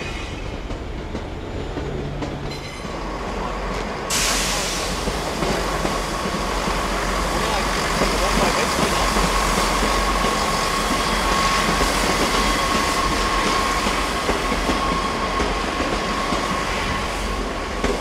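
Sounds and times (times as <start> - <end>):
diesel train running: 0.0 - 18.0.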